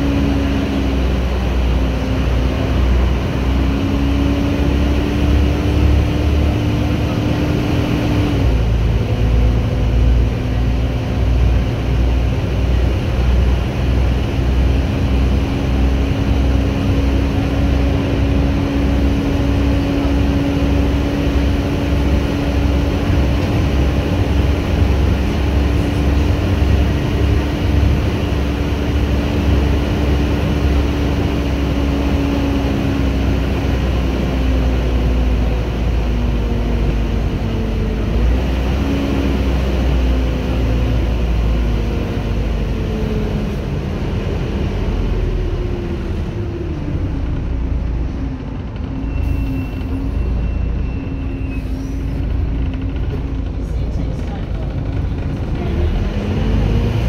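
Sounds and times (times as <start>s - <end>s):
bus engine whine: 0.0s - 57.0s
diesel bus engine rumble: 0.0s - 57.0s.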